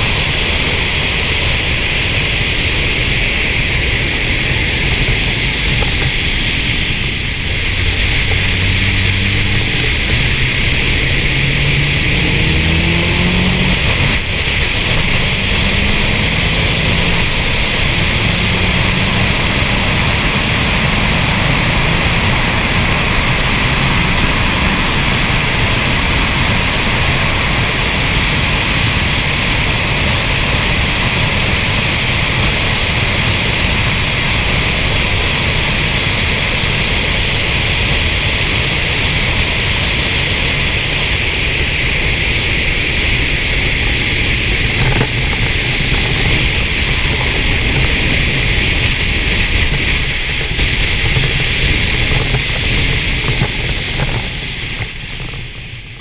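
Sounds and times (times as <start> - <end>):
road and tyre rumble: 0.0 - 56.0
wind rushing over microphone: 0.0 - 56.0.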